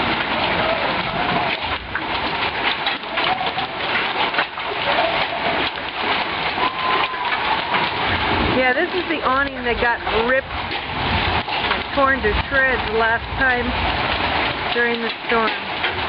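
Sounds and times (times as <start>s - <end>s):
hailstones clattering: 0.0s - 16.0s.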